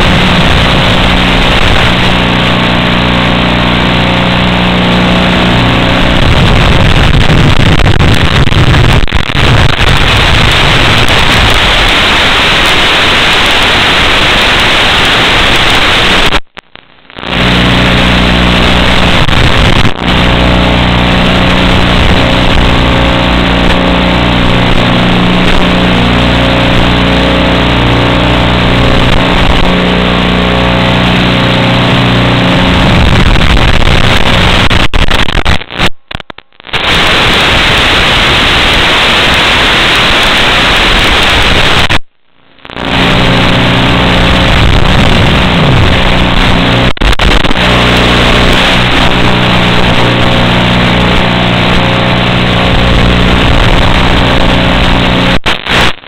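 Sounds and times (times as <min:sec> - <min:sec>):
receiver hiss and buzz: 0:00.0 - 0:56.0.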